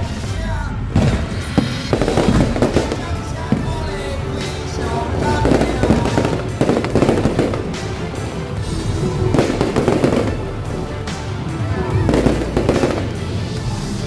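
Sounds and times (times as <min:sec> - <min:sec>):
fireworks bursting and crackling: 0:00.0 - 0:14.0
music playing: 0:00.0 - 0:14.0.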